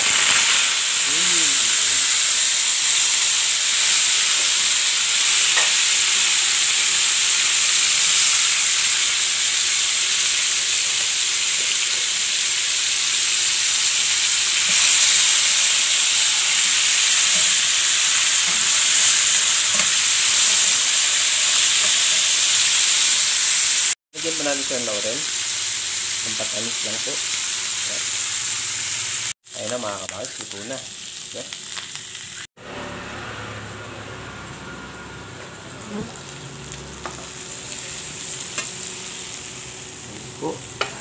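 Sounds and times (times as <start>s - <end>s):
liver sizzling in a pan: 0.0s - 32.5s, 35.0s - 41.0s.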